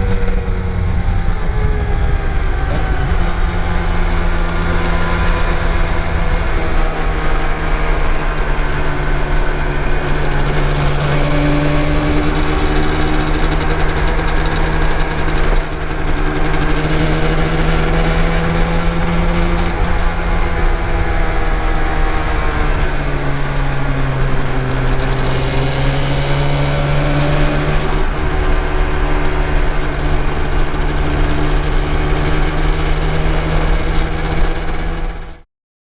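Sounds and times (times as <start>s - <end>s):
motorcycle engine running: 0.0s - 35.4s
wind and road noise: 0.0s - 35.4s.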